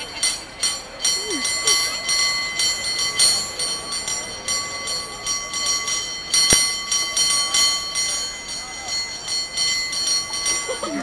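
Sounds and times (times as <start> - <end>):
cable car bell ringing: 0.0 - 11.0.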